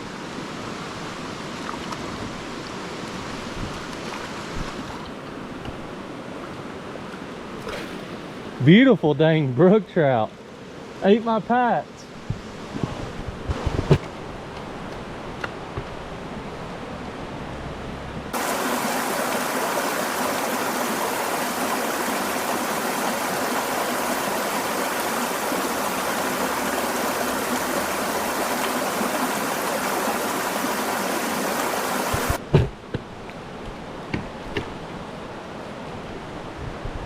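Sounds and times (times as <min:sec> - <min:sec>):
rushing mountain stream: 0:00.0 - 0:12.9, 0:18.3 - 0:36.8.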